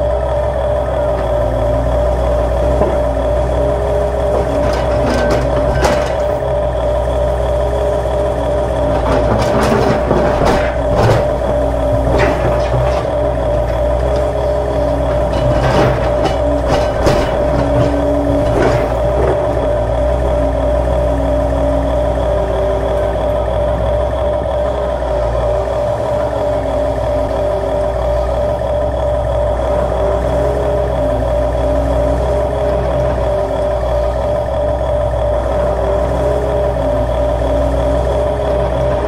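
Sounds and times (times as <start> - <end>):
steady motor whine: 0.0 - 39.0.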